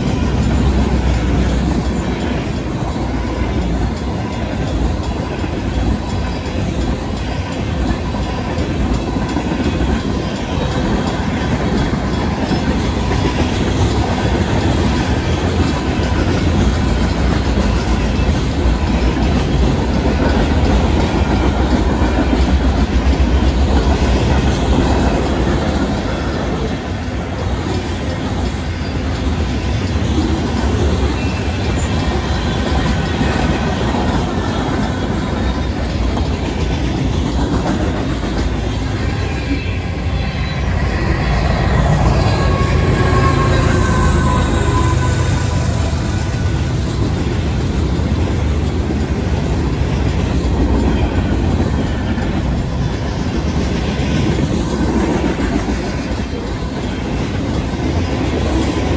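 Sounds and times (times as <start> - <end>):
clickety-clack over rail joints: 0.0 - 58.9
crossing warning bells ringing: 0.0 - 58.9
freight train wheels rumbling: 0.0 - 58.9.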